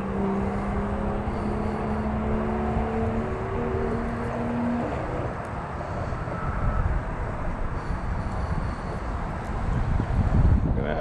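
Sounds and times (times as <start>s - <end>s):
engine hum: 0.0s - 11.0s
low outdoor rumble: 0.0s - 11.0s.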